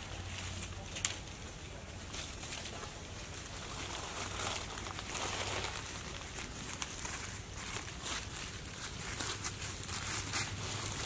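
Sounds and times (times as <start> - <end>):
dry leaves crackling: 0.0 - 11.0
loud rustle: 0.0 - 11.0
steady outdoor hiss: 0.0 - 11.0.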